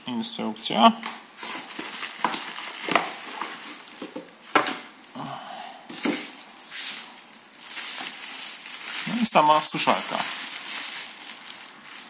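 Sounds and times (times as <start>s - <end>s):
packaging rustling and scraping: 1.4s - 5.1s, 5.9s - 12.0s.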